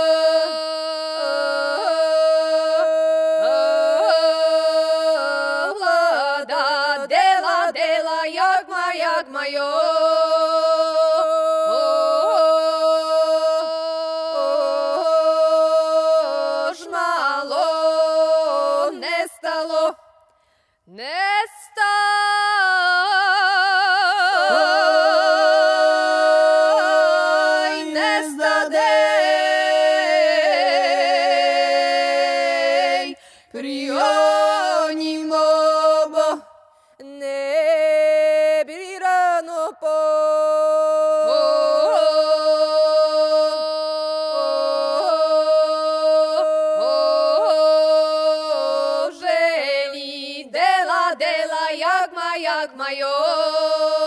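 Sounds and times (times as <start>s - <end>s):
people singing a cappella: 0.0s - 54.0s.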